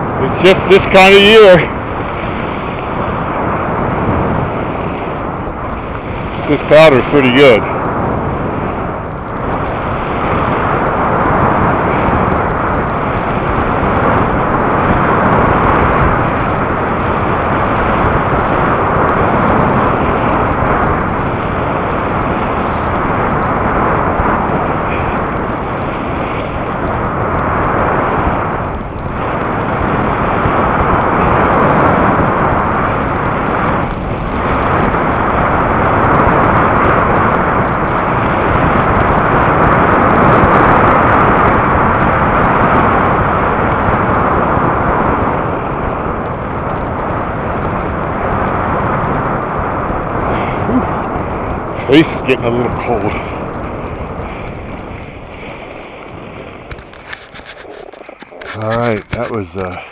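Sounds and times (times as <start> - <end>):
wind on microphone: 0.0 - 59.9.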